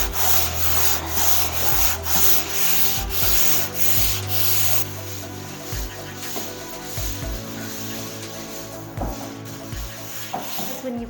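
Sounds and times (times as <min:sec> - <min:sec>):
sandpaper scraping drywall: 0:00.0 - 0:11.0.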